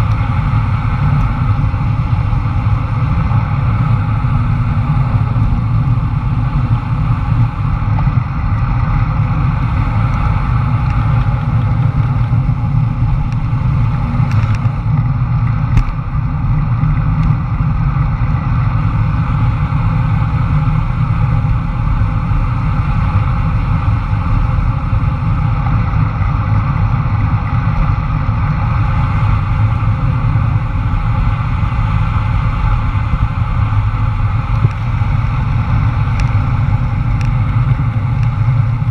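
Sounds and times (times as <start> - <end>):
rolling road noise: 0.0 - 38.9
wind buffeting microphone: 0.0 - 38.9.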